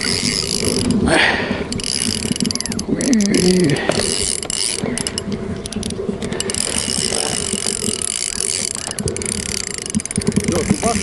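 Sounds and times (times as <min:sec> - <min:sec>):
fishing reel ratcheting clicks: 0:00.0 - 0:01.0, 0:01.7 - 0:11.0.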